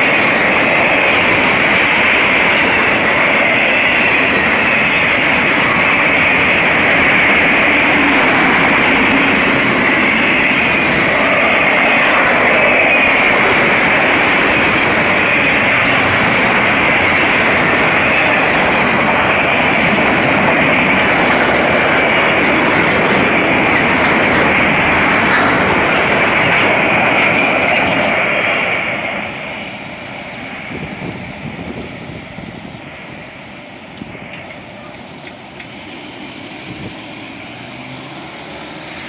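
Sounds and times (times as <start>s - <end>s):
train wheels clattering on rail: 0.0s - 39.0s.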